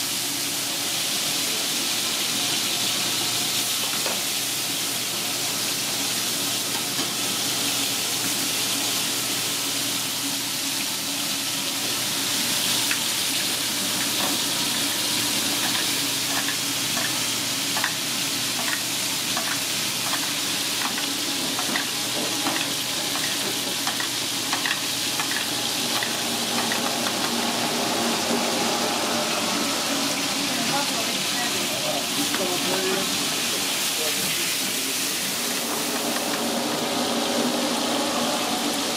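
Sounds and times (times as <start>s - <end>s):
steaks sizzling in a skillet: 0.0s - 38.9s.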